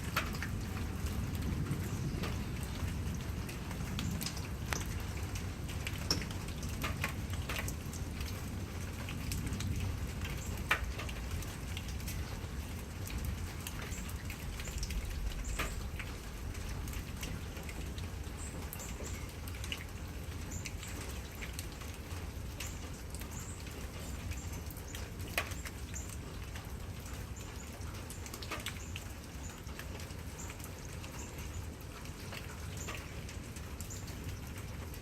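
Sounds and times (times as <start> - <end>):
raindrops tapping surfaces: 0.0 - 35.0
steady rain: 0.0 - 35.0.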